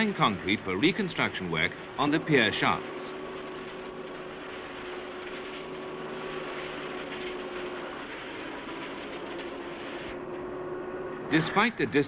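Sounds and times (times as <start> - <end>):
concrete mixing machinery drone: 0.0 - 12.0.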